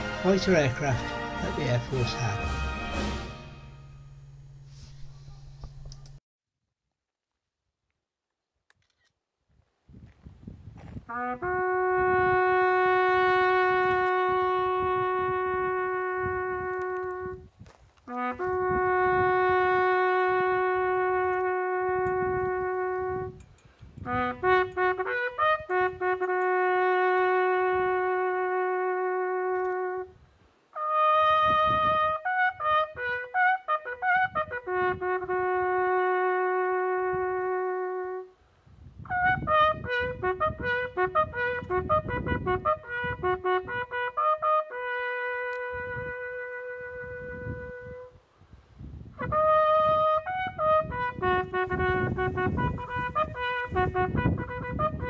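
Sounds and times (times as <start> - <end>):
solo brass instrument call: 0.0 - 5.6, 11.0 - 23.4, 24.0 - 38.4, 39.0 - 48.2, 49.2 - 55.0.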